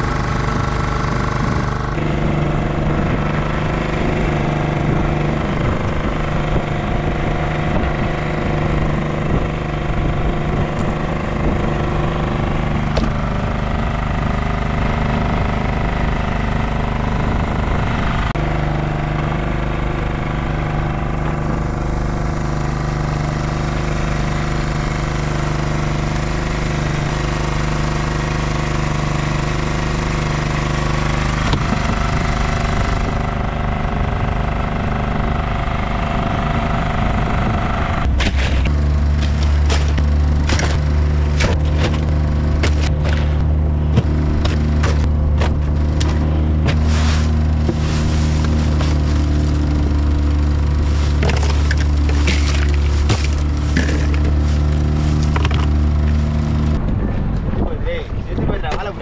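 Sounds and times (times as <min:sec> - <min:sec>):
boat engine knocking steadily: 0:00.0 - 0:56.9.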